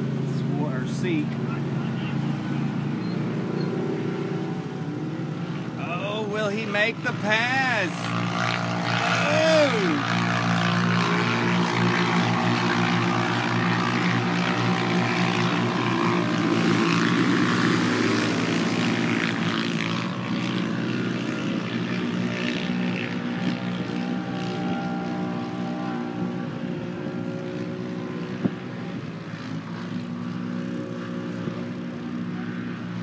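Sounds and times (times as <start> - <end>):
drone propellers humming: 0.0 - 33.0
race car engines: 0.0 - 33.0.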